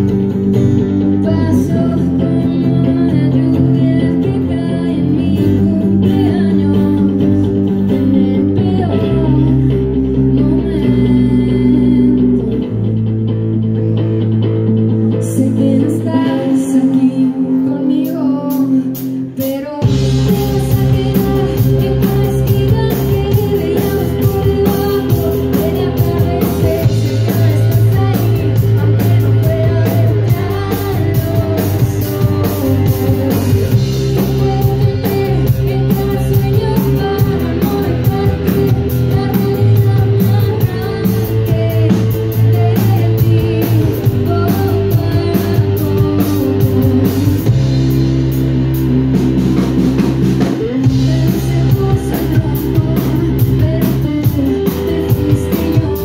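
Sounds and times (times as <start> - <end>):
woman singing: 0.0 - 13.2, 15.1 - 56.0
bass guitar: 0.0 - 56.0
drum kit: 0.0 - 56.0
guitars: 0.0 - 56.0.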